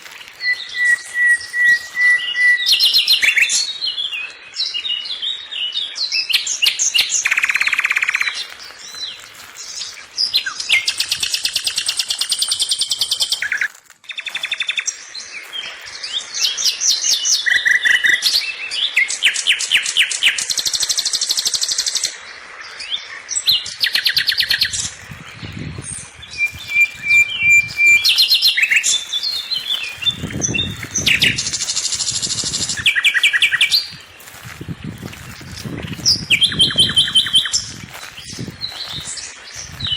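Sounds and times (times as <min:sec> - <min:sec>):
songbirds chirping and singing: 0:00.0 - 0:20.5, 0:21.9 - 0:39.9.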